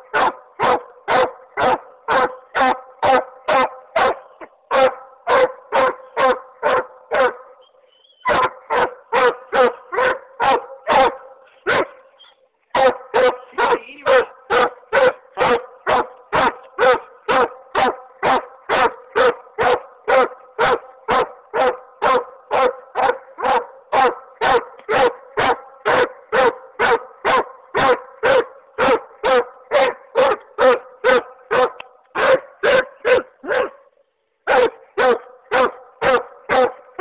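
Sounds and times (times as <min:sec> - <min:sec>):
hound barking rapidly: 0:00.0 - 0:37.0.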